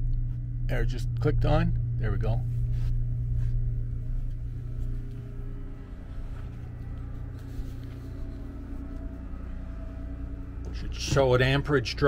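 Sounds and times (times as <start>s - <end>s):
air conditioner running: 0.0s - 12.0s
generator humming: 0.0s - 12.0s.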